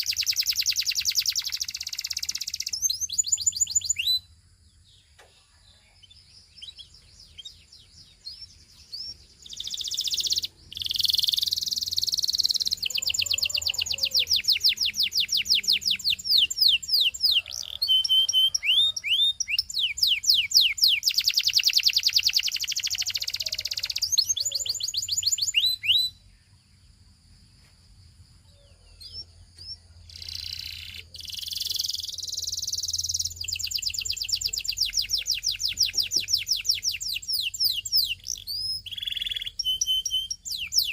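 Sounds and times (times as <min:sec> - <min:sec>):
canary singing fast trills: 0:00.0 - 0:27.1, 0:28.4 - 0:40.9.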